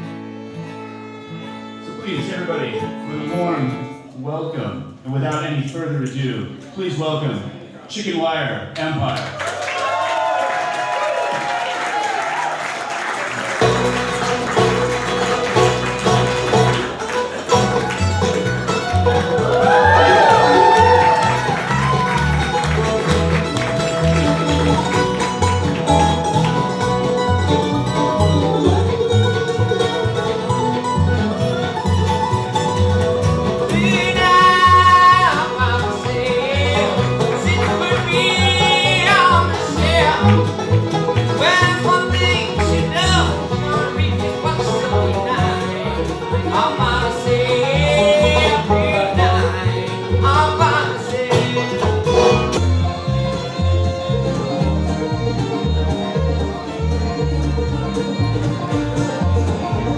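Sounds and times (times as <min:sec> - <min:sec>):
fiddle notes sliding: 0:00.0 - 0:05.1, 0:13.3 - 0:59.9
mandolin picking: 0:00.0 - 0:05.6, 0:13.3 - 0:59.9
bluegrass band playing: 0:00.0 - 0:08.2, 0:11.0 - 0:59.9.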